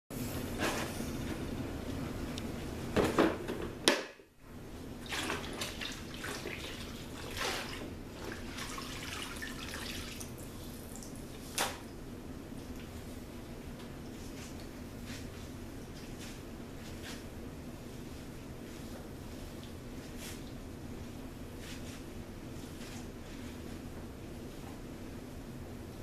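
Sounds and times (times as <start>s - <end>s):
steady low hum: 0.1s - 26.0s
mop swishing across floor: 0.2s - 2.2s, 5.1s - 11.9s, 12.6s - 25.4s.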